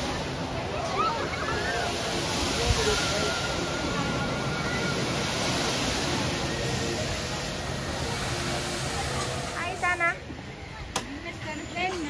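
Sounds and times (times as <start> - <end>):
faint distant voices: 0.0 - 12.0
steady rushing outdoor noise: 0.0 - 12.0.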